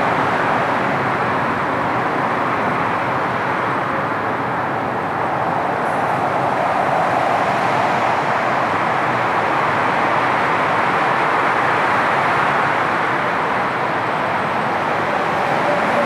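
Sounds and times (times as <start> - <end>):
jet airliner roar: 0.0 - 16.0.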